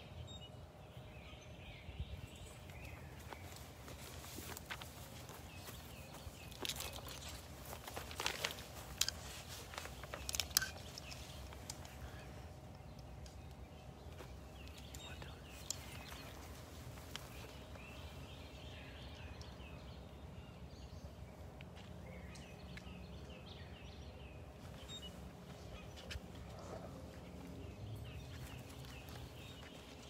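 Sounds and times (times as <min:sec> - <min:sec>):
birds chirping: 0:00.0 - 0:30.0
low outdoor rumble: 0:00.1 - 0:30.0.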